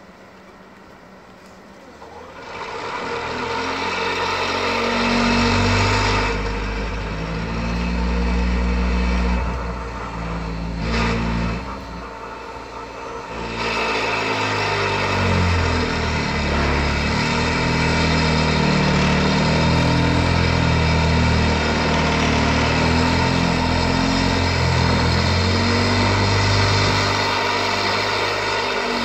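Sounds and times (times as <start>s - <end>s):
diesel engine: 0.0s - 29.0s.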